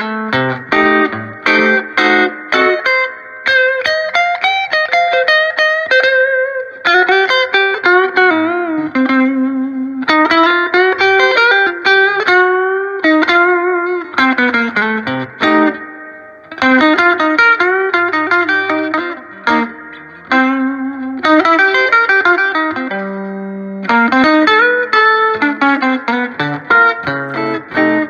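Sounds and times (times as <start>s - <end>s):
electric guitar with reverb: 0.0s - 28.0s.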